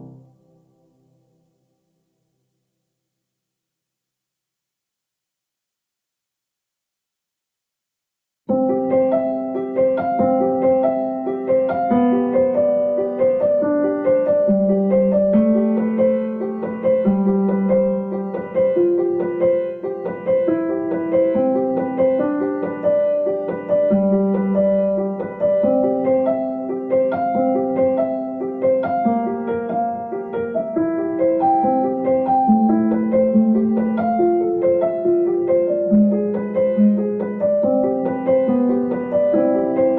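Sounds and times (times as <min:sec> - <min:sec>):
piano music: 0:00.0 - 0:01.3, 0:08.5 - 0:39.9.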